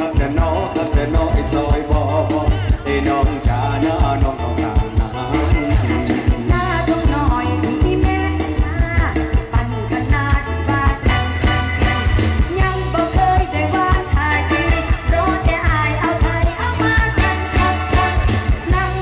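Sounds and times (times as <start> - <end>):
person singing: 0.0 - 11.6, 12.4 - 19.0.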